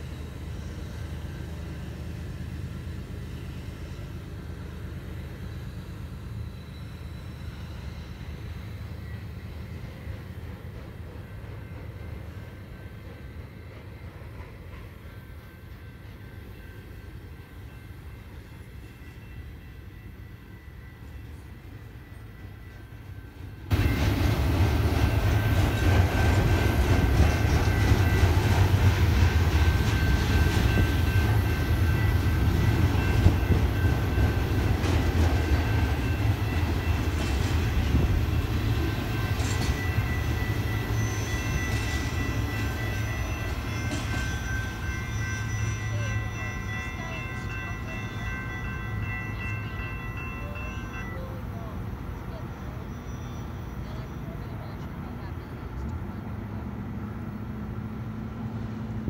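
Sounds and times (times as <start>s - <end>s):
high-pitched whining tones: 0.0s - 54.6s
train wheels rumbling on rail: 0.0s - 59.0s.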